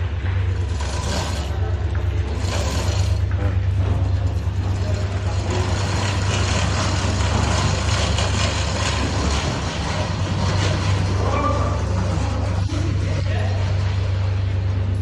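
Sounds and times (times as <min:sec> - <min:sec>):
van engine droning: 0:00.0 - 0:15.0.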